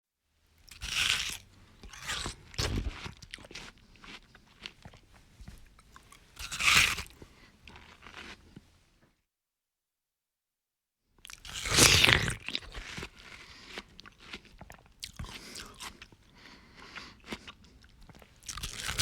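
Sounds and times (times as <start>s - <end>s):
chewing crunches: 0.6s - 8.6s, 11.2s - 19.0s
crunchy bites of watermelon: 0.6s - 8.6s, 11.3s - 19.0s.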